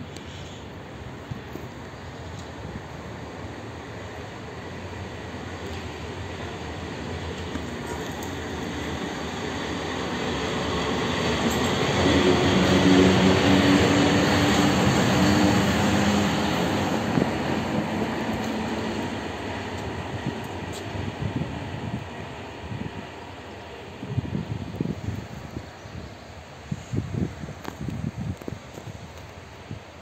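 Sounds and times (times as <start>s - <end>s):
electric locomotive passing: 0.0s - 30.0s.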